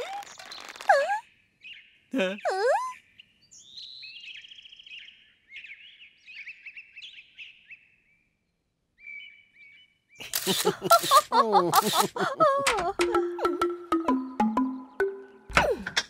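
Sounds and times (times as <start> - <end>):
songbirds chirping: 0.1 - 16.0.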